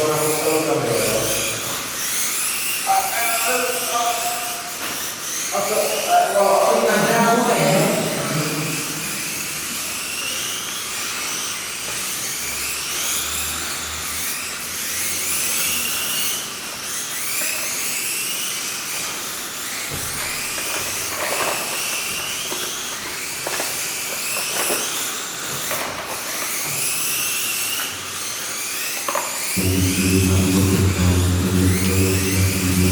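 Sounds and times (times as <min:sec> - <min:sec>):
small electric motors whining: 0:00.0 - 0:32.9.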